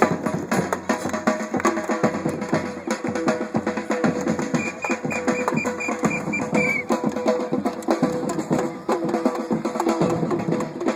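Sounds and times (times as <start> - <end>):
upbeat percussive music: 0.0 - 10.9.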